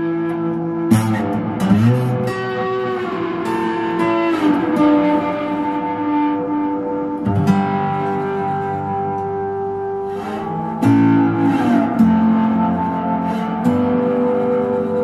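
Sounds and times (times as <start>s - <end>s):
lap-style acoustic guitar: 0.0s - 15.0s.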